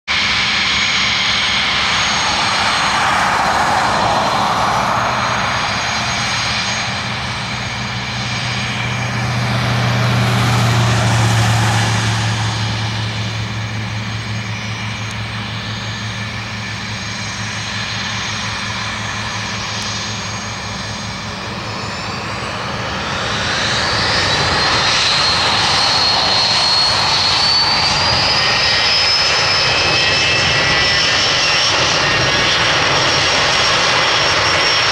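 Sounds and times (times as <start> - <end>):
jet engines whining: 0.1 - 34.9.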